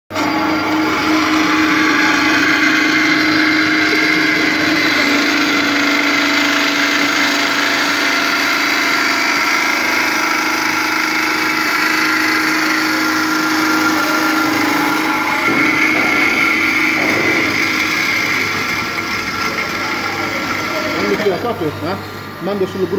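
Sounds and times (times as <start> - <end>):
bandsaw whining: 0.1 - 22.9.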